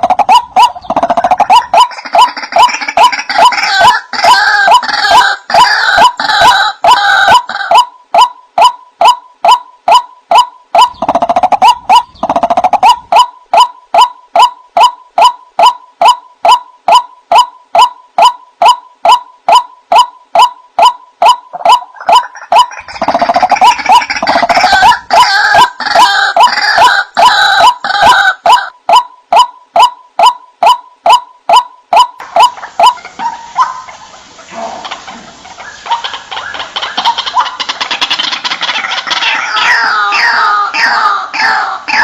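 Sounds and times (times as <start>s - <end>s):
harsh overlapping bird calls: 0.0s - 42.0s
waterhen calling sharp notes: 0.0s - 42.0s.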